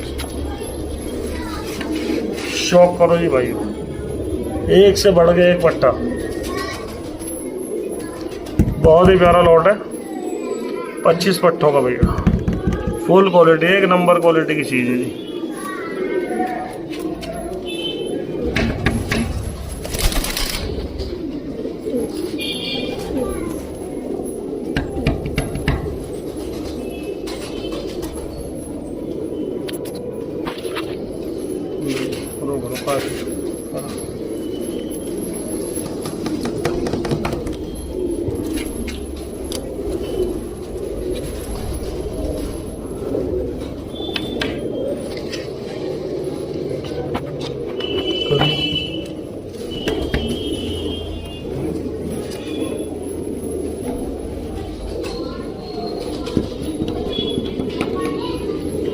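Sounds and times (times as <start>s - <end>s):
pigeons cooing: 0.0s - 58.9s.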